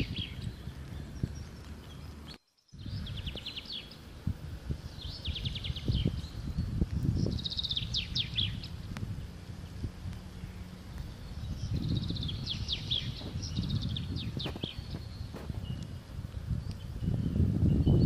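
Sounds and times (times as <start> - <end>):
songbird trilling: 0.0 - 18.0.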